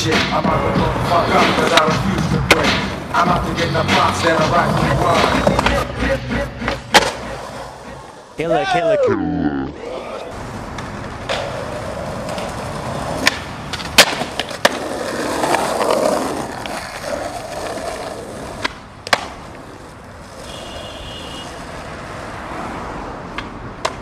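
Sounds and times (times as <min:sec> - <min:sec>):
skateboard wheels rolling on pavement: 0:00.0 - 0:09.0, 0:09.8 - 0:24.0
skateboard popping and landing: 0:00.1 - 0:06.0, 0:06.6 - 0:08.2, 0:10.3 - 0:22.3, 0:23.3 - 0:24.0.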